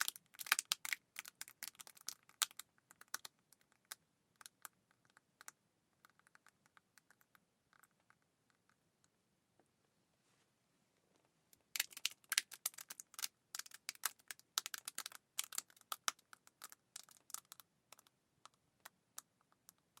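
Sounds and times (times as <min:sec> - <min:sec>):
sharp clicks and crackles: 0:00.0 - 0:09.2, 0:11.6 - 0:20.0.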